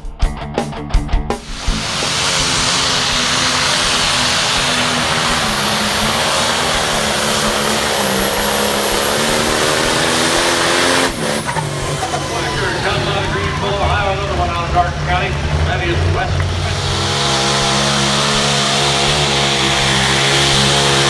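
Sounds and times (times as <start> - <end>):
pulling engine at full throttle: 1.4 - 21.0.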